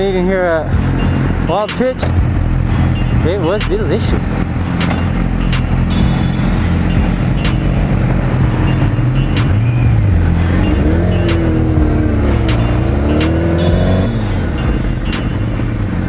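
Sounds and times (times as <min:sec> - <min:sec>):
motorcycle engines: 0:00.0 - 0:16.0
steady backing beat: 0:00.0 - 0:16.0.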